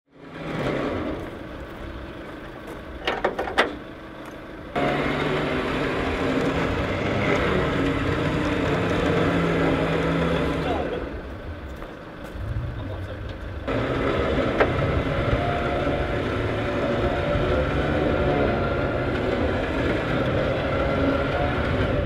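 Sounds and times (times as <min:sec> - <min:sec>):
truck winch running: 0:00.2 - 0:12.3, 0:13.1 - 0:22.0.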